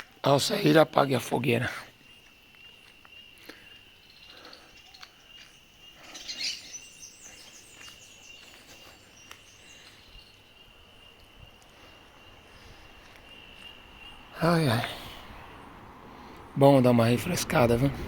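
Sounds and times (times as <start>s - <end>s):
high insect trill: 0.0s - 17.8s
birds chirping: 0.0s - 18.0s.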